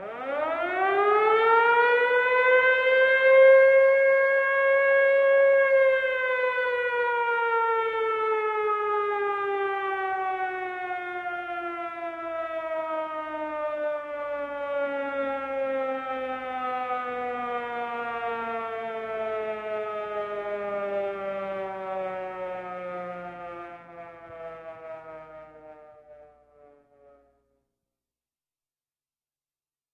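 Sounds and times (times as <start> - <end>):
air-raid siren wailing: 0.0 - 27.6.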